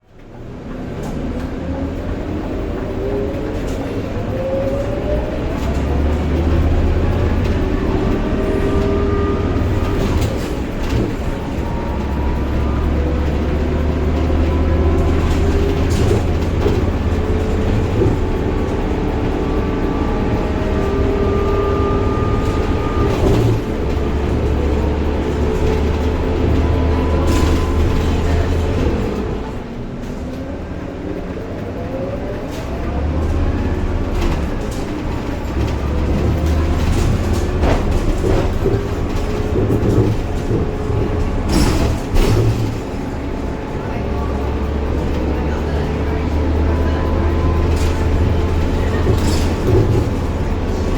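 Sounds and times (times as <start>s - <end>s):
bus diesel engine: 0.0s - 50.9s.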